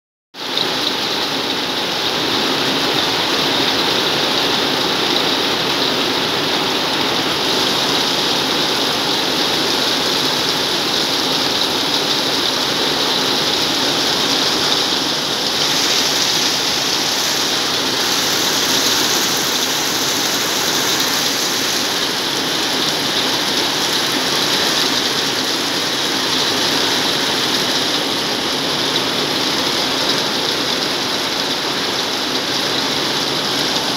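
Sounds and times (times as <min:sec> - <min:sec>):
heavy rain on metal roof: 0:00.4 - 0:33.9.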